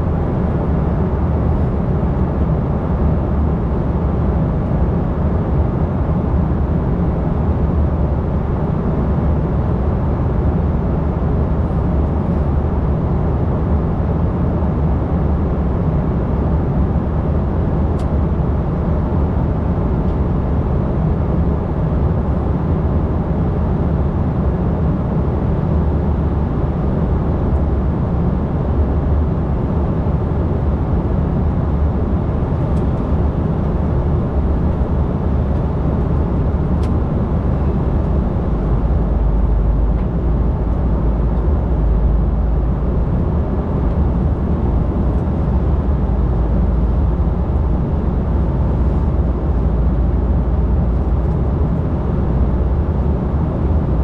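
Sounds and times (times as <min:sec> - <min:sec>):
airliner cabin rumble and hiss: 0:00.0 - 0:54.0.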